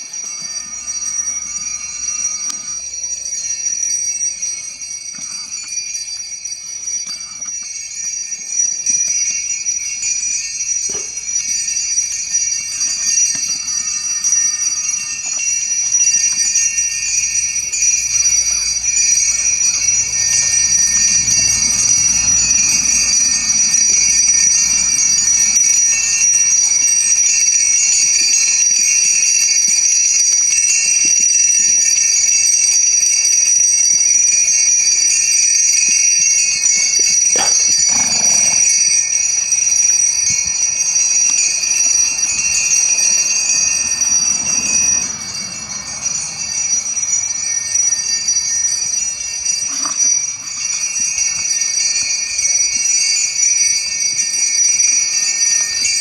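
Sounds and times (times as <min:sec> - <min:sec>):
sleigh bells jingling: 0:00.0 - 0:56.0.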